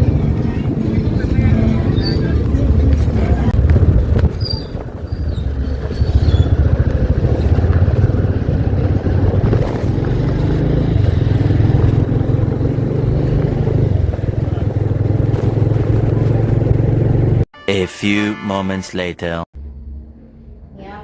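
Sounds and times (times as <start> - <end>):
vehicle engine running: 0.0 - 17.4
road noise: 0.0 - 17.5.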